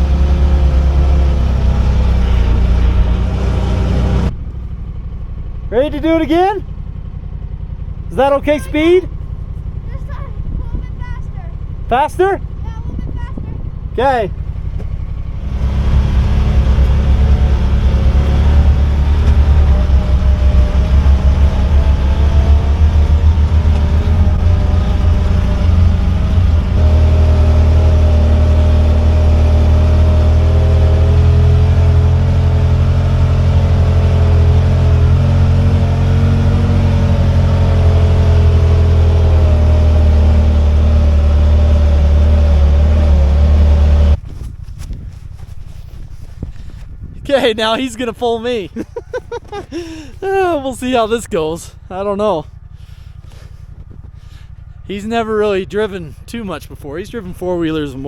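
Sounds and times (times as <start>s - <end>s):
vehicle engine driving through snow: 0.0s - 58.0s.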